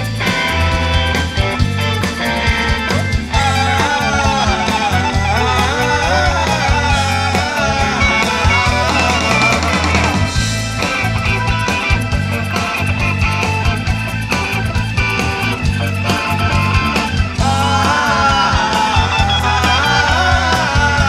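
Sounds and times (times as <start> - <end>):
rock band playing: 0.0 - 21.0
wavering lead line with pitch bends: 0.0 - 21.0.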